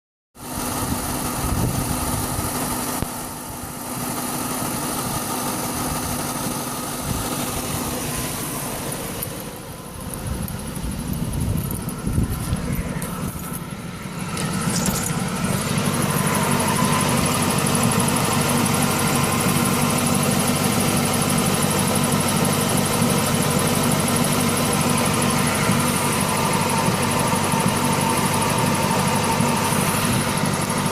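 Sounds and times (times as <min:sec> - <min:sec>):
car engine running: 0:00.4 - 0:30.9
engine tapping: 0:00.4 - 0:30.9
engine squeal: 0:04.9 - 0:30.9.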